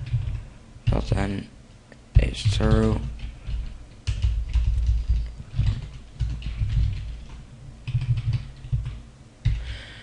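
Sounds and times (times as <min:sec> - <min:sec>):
typing on computer keyboard: 0:00.0 - 0:01.2, 0:02.2 - 0:09.6.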